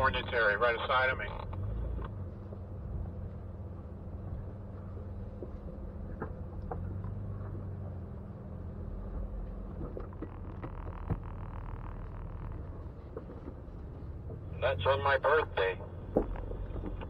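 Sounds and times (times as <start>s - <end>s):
car engine running low: 0.0s - 17.0s.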